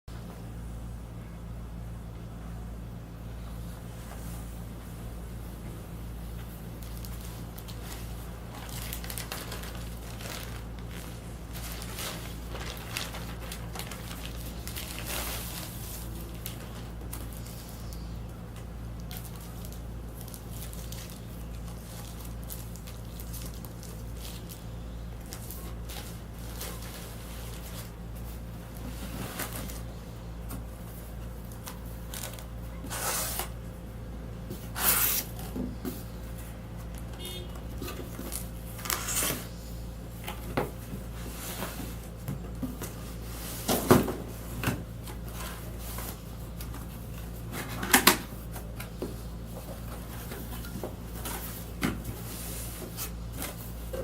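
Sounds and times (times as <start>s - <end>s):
steady low hum: 0.1s - 54.0s.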